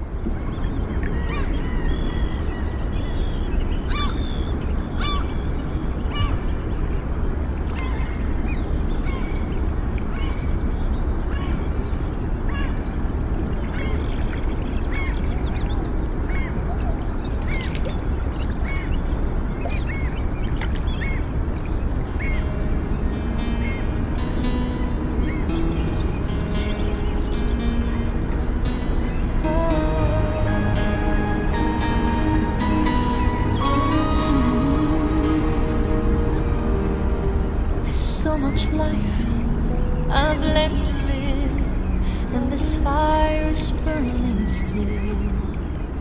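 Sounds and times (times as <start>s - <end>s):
birds calling: 0.0s - 40.6s
steady low background noise: 0.0s - 46.0s.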